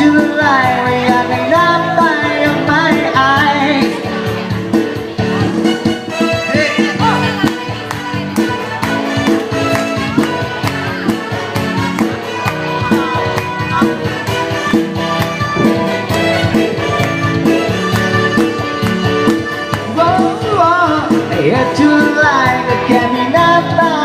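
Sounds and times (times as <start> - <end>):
pop song instrumental: 0.0 - 24.0.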